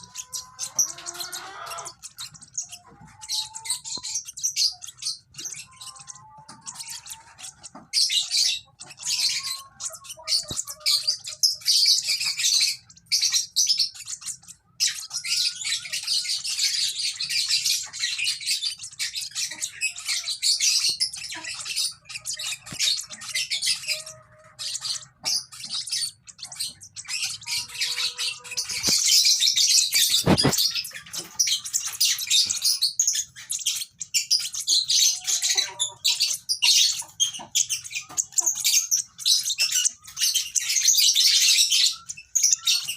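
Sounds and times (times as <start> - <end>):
lovebirds chirping: 0.0 - 42.9.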